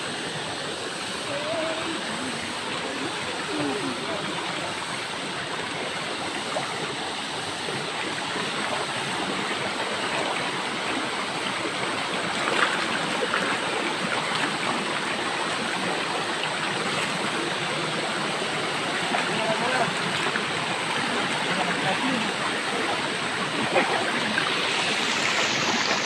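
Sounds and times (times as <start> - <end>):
river rushing over stones: 0.0 - 26.0
water splashing: 1.1 - 26.0.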